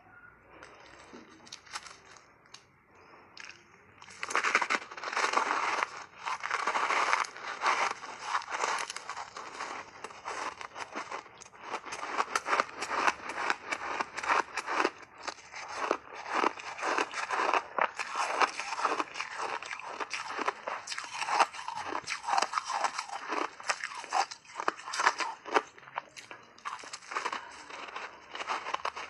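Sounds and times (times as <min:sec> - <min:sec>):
ice being chewed and crunched: 0:00.5 - 0:29.0.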